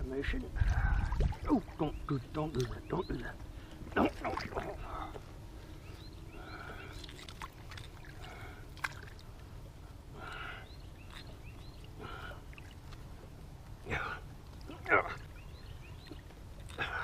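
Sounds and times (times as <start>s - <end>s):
bird calling: 0.8s - 9.2s, 10.1s - 13.0s, 13.9s - 17.0s.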